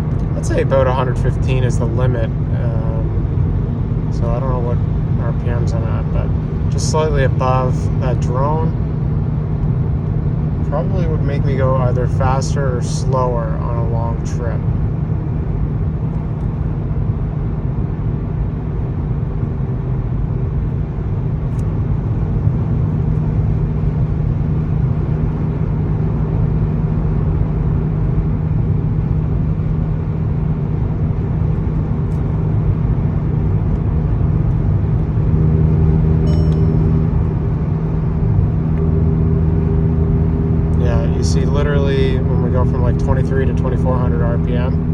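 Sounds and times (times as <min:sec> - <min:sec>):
exhaust drone in car cabin: 0:00.0 - 0:44.9
road and tyre noise: 0:00.0 - 0:44.9.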